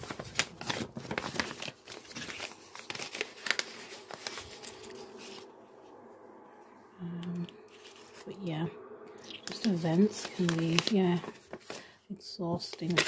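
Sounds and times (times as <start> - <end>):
paper envelopes rustling: 0.0 - 5.6, 7.4 - 8.4, 9.2 - 13.0.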